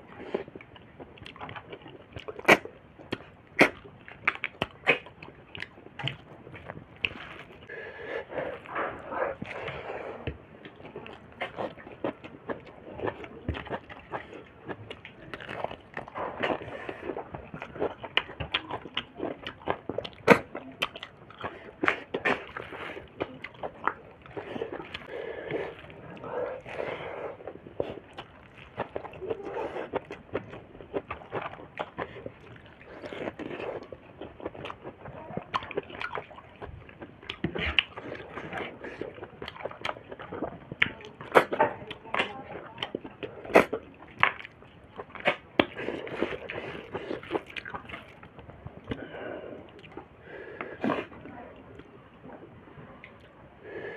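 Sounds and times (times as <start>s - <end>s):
chewing with wet mouth noises: 0.0s - 53.9s.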